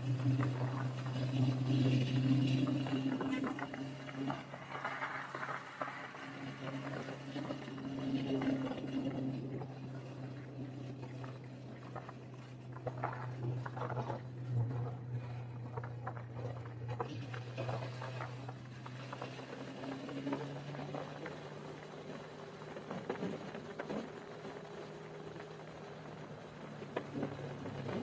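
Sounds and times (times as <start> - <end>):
motorcycle engine humming: 0.0 - 28.0.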